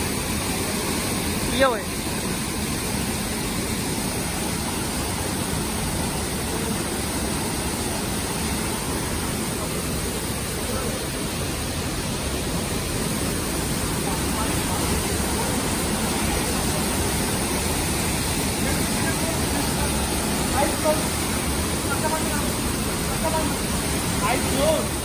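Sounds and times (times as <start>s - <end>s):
waterfall and stream rushing: 0.0s - 25.0s.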